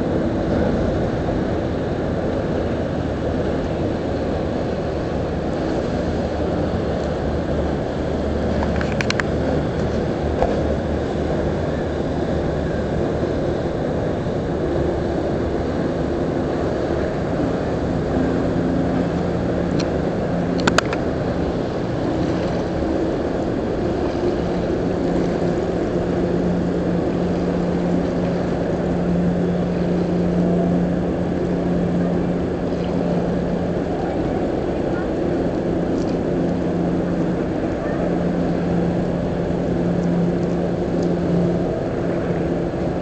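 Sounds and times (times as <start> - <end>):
ship machinery rumble: 0.0 - 43.0.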